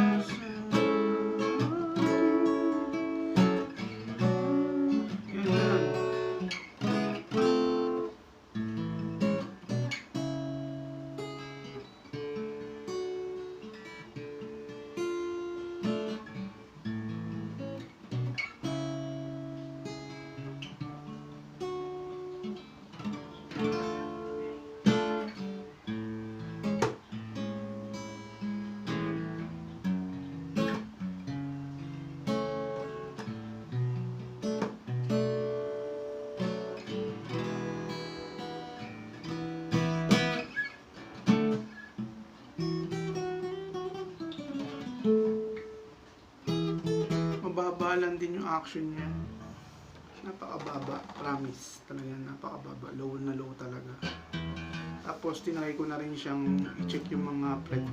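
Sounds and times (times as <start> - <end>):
acoustic guitar chords: 0.0 - 57.9.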